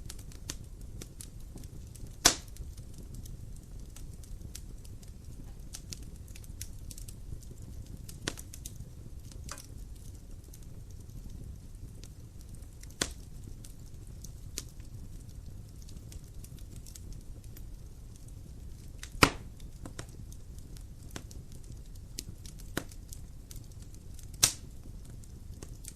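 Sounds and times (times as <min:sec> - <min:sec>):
wood fire crackling and popping: 0:00.0 - 0:25.9.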